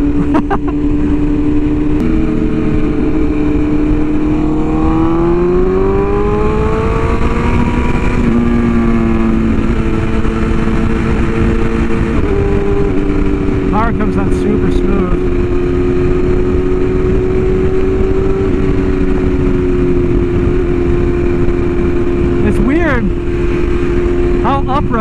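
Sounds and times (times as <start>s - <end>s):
motorcycle engine accelerating: 0.0s - 25.0s
wind rush on microphone: 0.0s - 25.0s.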